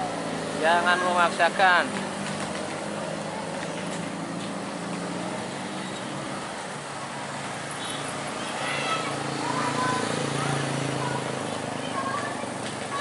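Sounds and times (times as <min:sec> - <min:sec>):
car engines passing: 0:00.0 - 0:13.0
tyre noise on road: 0:00.0 - 0:13.0.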